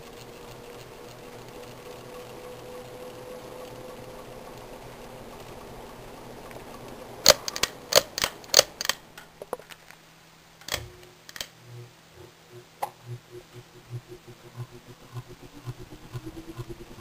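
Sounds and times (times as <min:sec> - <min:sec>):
ceiling fan motor humming: 0:00.0 - 0:17.0
faint pulsing low hum: 0:00.0 - 0:17.0.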